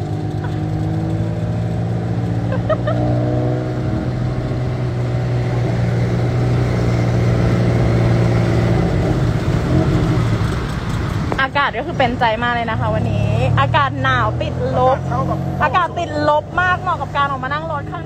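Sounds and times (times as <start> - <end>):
road noise: 0.0 - 18.0
tuk-tuk engine droning: 0.0 - 18.0.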